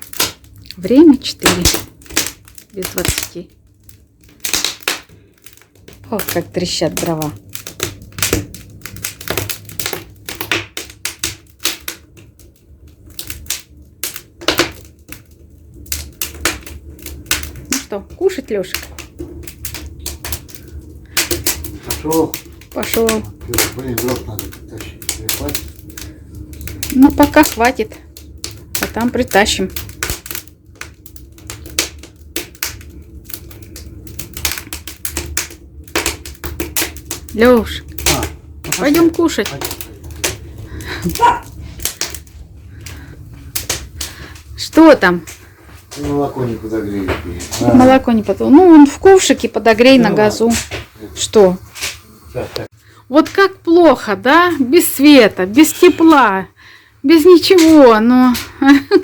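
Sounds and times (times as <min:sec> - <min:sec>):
firewood crackling: 0:00.0 - 0:59.0.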